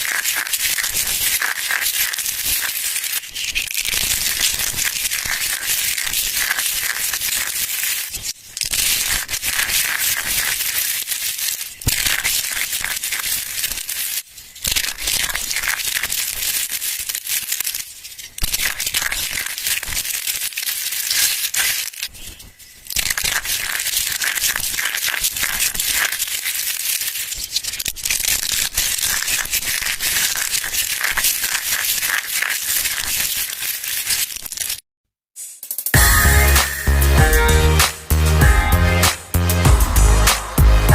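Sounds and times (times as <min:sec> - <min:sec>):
dry soap crunching: 0:00.0 - 0:34.8.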